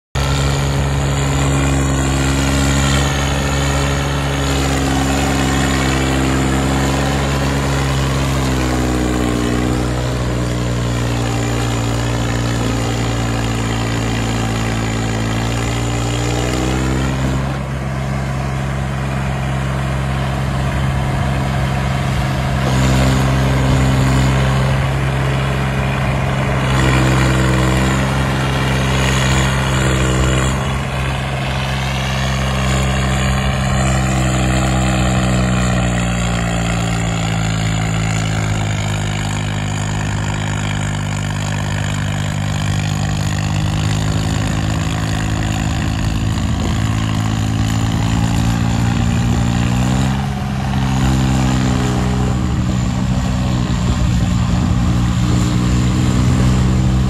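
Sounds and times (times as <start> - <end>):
tractor diesel engine under load: 0.1 - 57.0.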